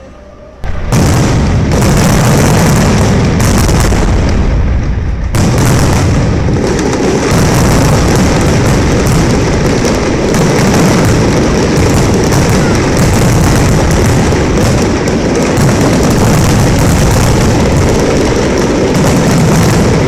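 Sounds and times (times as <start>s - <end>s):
fireworks barrage rumbling: 0.0s - 20.0s.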